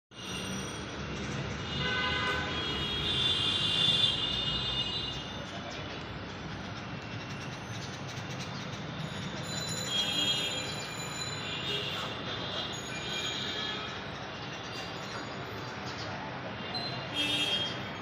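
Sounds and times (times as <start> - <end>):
low rumble of traffic: 0.2 - 18.0.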